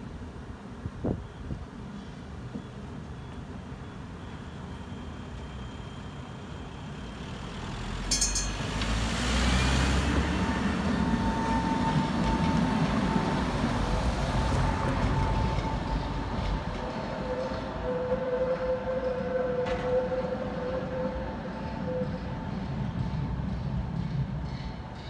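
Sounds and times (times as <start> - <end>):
tram rumbling on tracks: 0.0 - 25.0.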